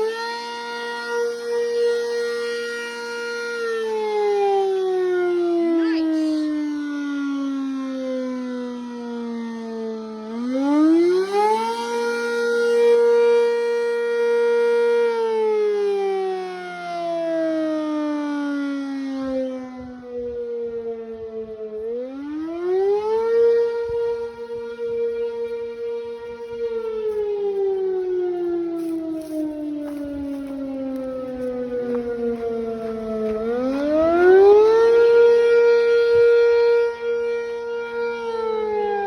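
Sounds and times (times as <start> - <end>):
warning siren wailing: 0.0 - 39.0.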